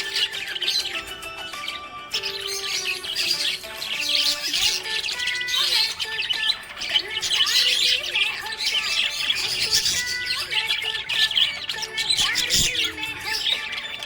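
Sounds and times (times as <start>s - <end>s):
budgerigars chirping and squawking: 0.0s - 14.0s.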